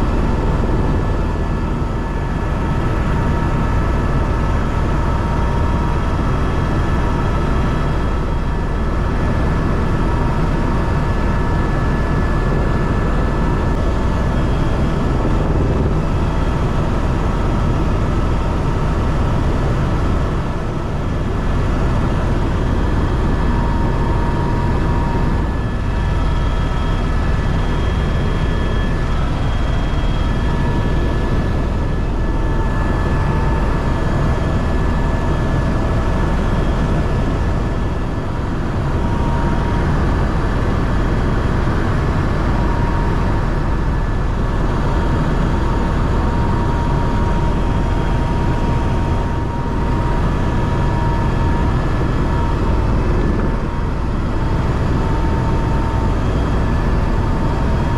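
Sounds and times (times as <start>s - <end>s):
helicopter rotor and engine: 0.0s - 57.9s
high steady whine: 0.0s - 57.9s.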